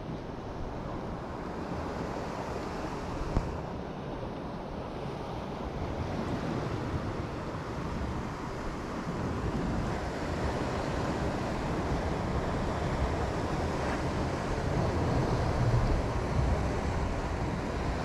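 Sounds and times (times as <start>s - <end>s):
wind noise on microphone: 0.0s - 3.8s, 4.9s - 18.0s.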